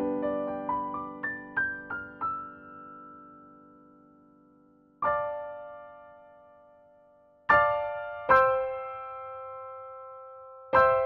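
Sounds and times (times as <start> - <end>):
slow solo piano chords: 0.0 - 11.0.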